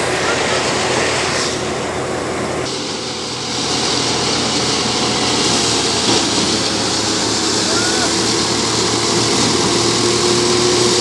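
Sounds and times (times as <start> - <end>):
threshing machine drone: 0.0 - 11.0.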